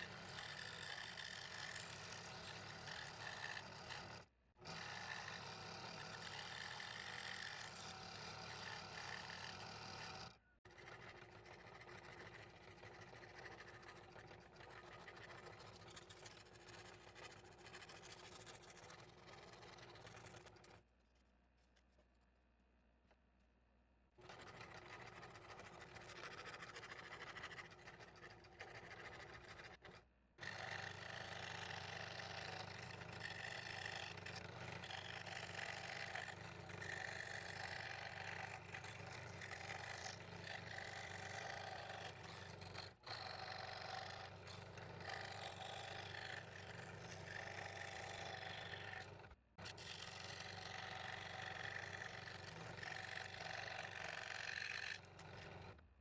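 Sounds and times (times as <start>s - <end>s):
scroll saw cutting plywood: 0.0s - 20.8s, 24.2s - 55.9s.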